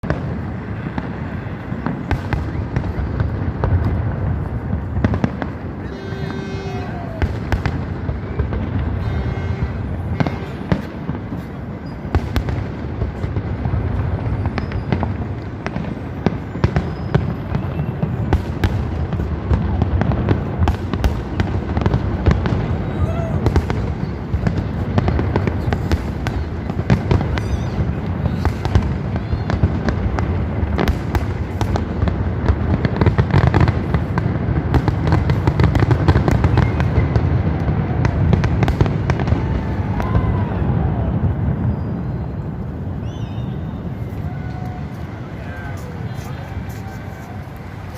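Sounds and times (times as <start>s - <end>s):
firework bangs and crackles: 0.0s - 47.9s.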